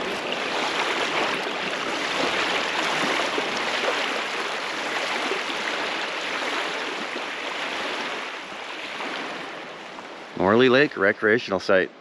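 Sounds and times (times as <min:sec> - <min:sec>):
small waves washing on shore: 0:00.0 - 0:11.6.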